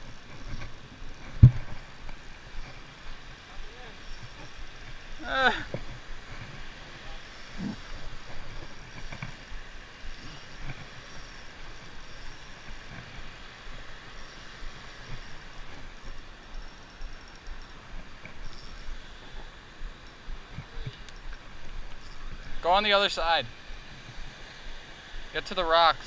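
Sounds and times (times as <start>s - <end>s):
steady rumbling noise: 0.0s - 26.0s.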